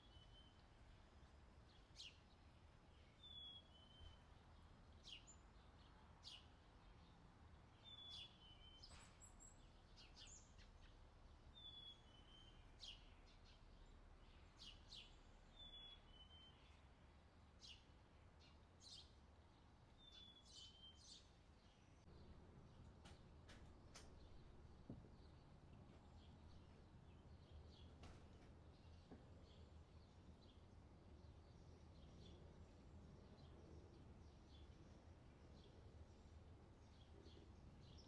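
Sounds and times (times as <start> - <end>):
low steady background hum: 0.0 - 38.0.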